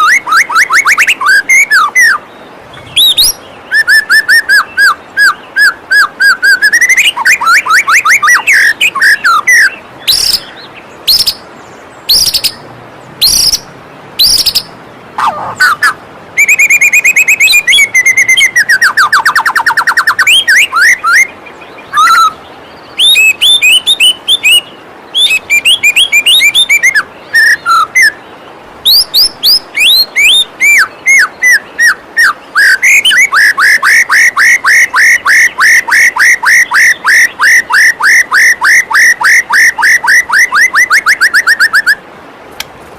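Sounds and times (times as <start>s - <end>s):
bird singing whistles and trills: 0.0s - 12.6s, 13.2s - 42.0s
waterfall water rushing: 0.0s - 42.9s.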